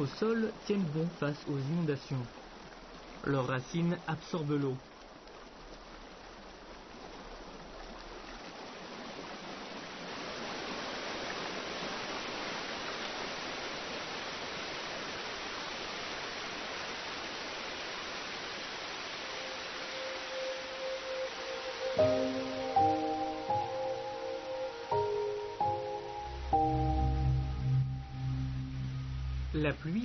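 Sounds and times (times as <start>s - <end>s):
rushing stream water: 0.0s - 30.0s.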